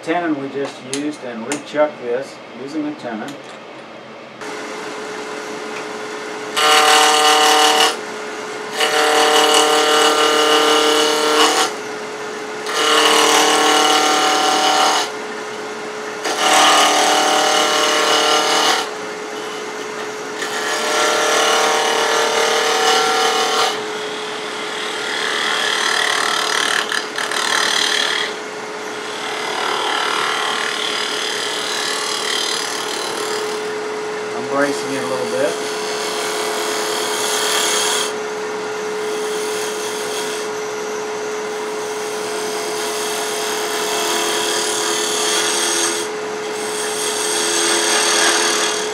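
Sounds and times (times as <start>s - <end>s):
wood lathe humming: 4.4s - 48.9s.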